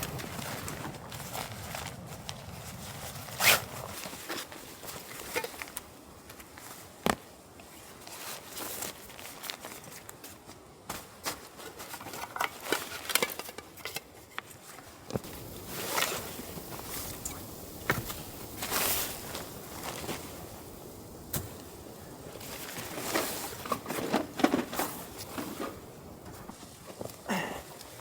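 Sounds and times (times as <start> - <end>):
camping gear rustling and scraping: 0.0 - 28.0.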